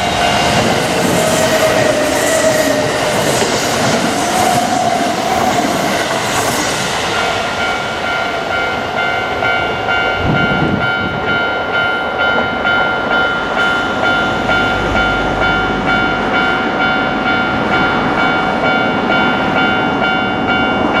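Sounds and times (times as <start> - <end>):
level crossing warning bell: 0.0 - 5.0, 7.2 - 21.0
passing train: 0.0 - 21.0.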